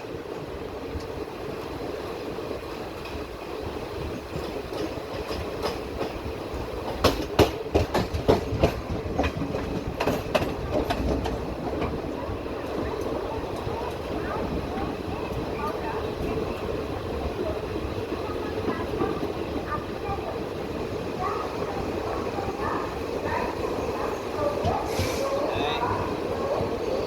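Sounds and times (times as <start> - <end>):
train rumbling on track: 0.0 - 27.0
wheels clacking over rail joints: 0.9 - 27.0.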